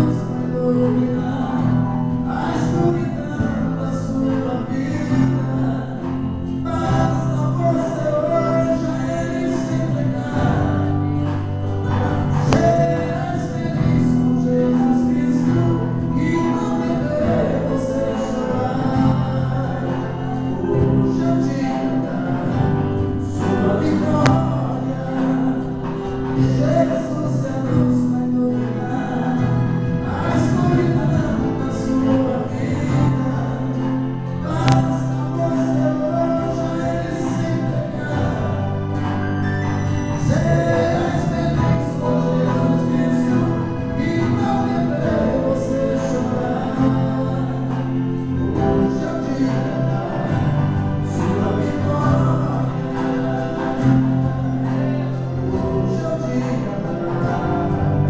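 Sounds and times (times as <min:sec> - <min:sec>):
amplified acoustic guitar: 0:00.0 - 0:58.0
men singing into microphones: 0:00.0 - 0:58.0.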